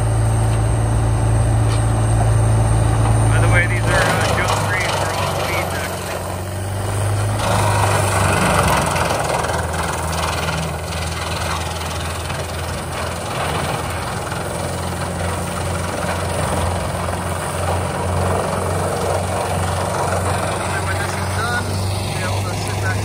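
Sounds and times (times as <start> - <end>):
low diesel engine drone: 0.0 - 23.0
wood chipper grinding wood: 0.0 - 23.0.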